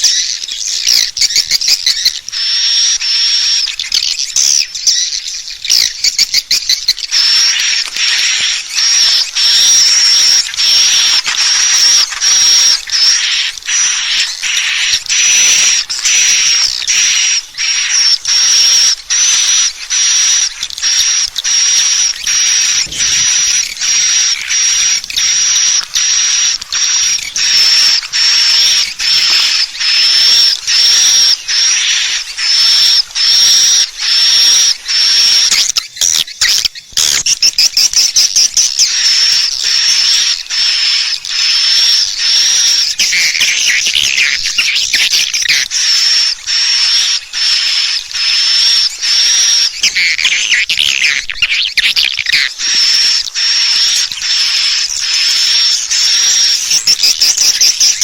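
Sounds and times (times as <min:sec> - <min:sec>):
recorded bird twittering: 0:00.0 - 0:58.0.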